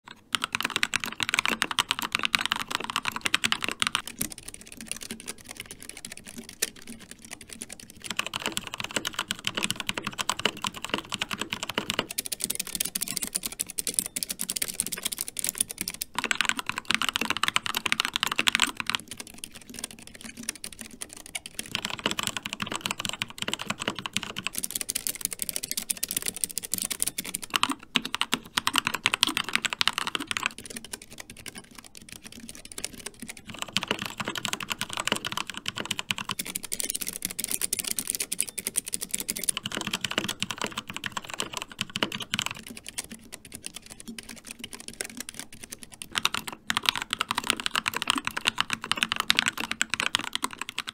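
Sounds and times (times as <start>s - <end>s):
keyboard typing clatter: 0.1s - 50.9s.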